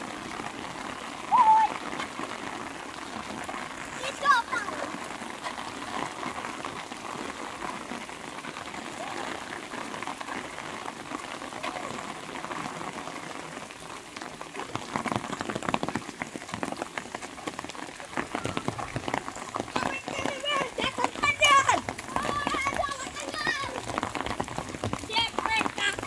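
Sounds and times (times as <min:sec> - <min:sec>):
sharp taps and drips: 0:00.0 - 0:26.0
steady rain falling: 0:00.0 - 0:26.0.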